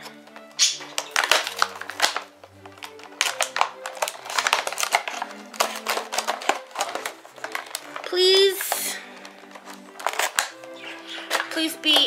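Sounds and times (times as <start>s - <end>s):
background music: 0.0s - 12.0s
packaging crinkling and clicking: 0.0s - 12.0s.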